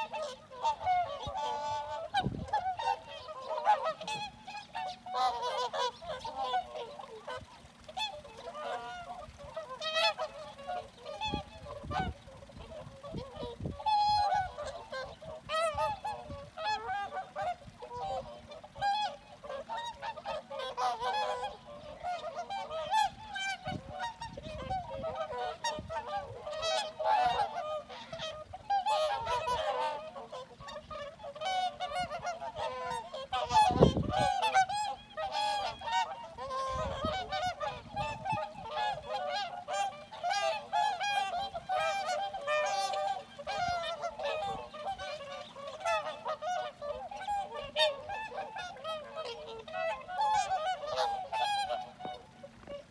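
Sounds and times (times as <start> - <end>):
swans honking: 0.0 - 52.9.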